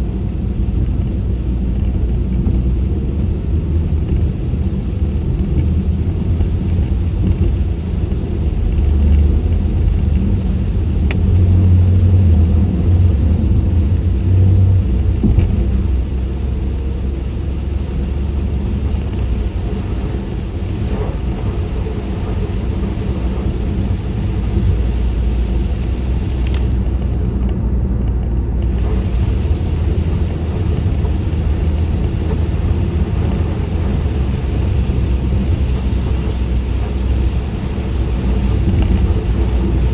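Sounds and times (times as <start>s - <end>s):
road and engine rumble: 0.0s - 39.9s
tyre and rain hiss: 4.4s - 26.9s, 28.7s - 39.9s.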